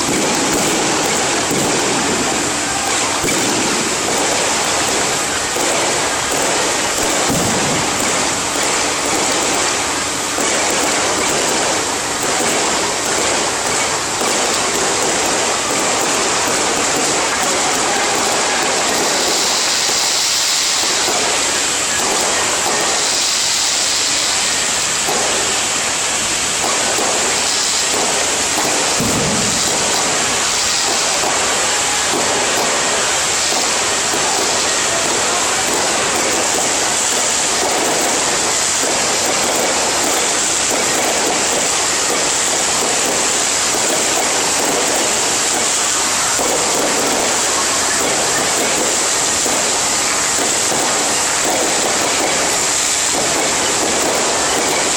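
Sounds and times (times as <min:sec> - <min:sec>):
firecrackers crackling: 0:00.0 - 0:54.9.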